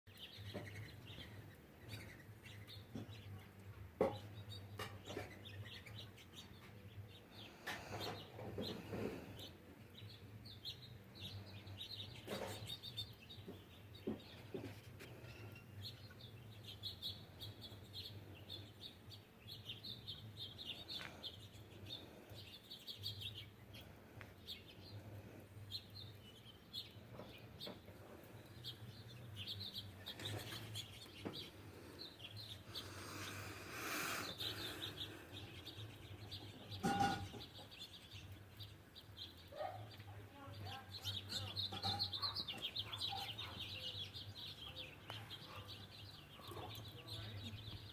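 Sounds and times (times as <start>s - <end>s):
songbirds chirping and twittering: 0.1s - 47.9s.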